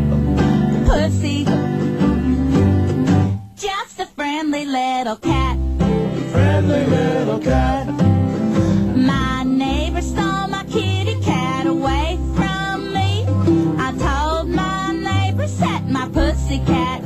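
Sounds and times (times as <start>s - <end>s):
guitar accompaniment: 0.0s - 17.0s
person singing: 0.4s - 17.0s.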